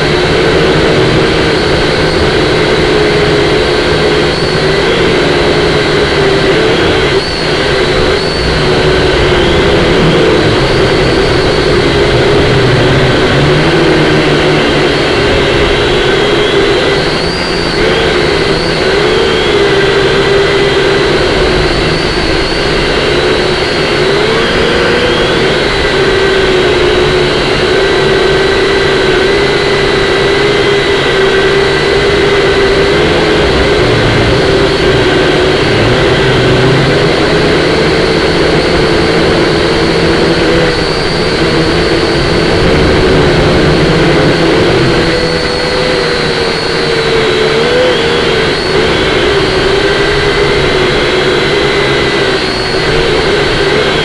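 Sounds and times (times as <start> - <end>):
drone motors whining: 0.0 - 54.0
wind rumble on microphone: 0.0 - 54.0.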